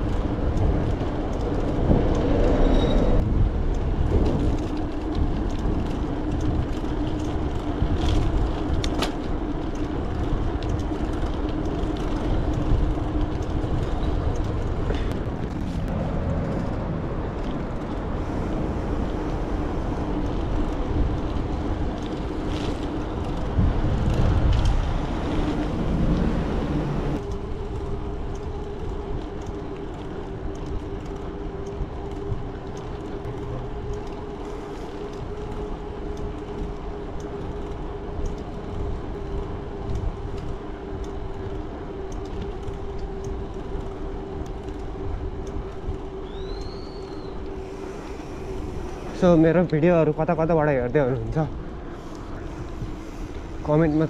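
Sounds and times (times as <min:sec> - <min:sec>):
bike tyres rolling hum: 0:00.0 - 0:54.0
wind rumble on microphone: 0:00.0 - 0:54.0.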